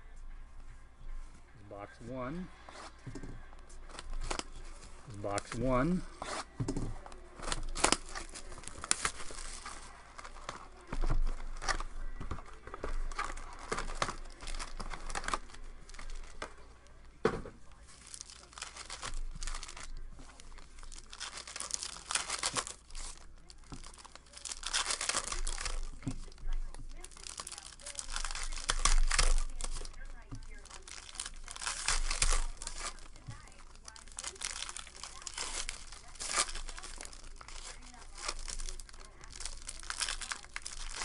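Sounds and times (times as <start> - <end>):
foil packs crinkling: 1.6 - 41.0
wrapper tearing open: 3.8 - 16.7, 17.8 - 41.0.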